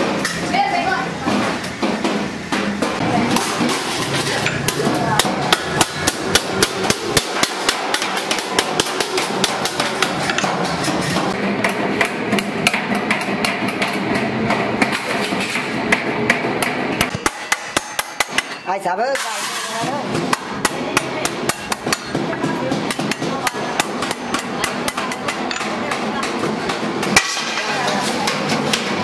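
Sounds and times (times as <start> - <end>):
hammer striking steel sheet: 1.2 - 29.0.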